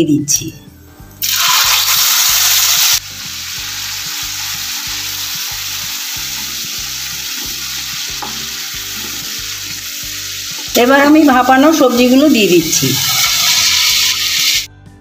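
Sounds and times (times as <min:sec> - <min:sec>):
paste sizzling in hot oil: 0:01.2 - 0:10.8, 0:11.7 - 0:14.7.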